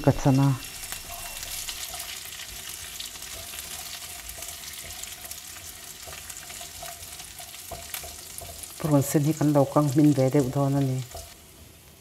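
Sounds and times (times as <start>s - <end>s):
onion sizzling in hot oil: 0.0s - 12.0s
spatula stirring in wok: 0.1s - 11.6s.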